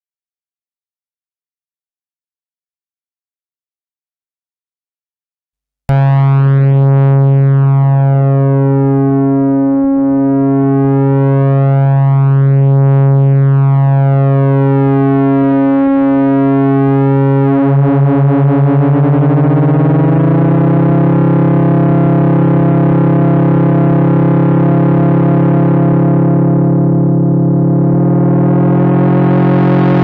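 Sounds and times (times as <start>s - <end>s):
synthesizer drone: 5.9s - 30.0s.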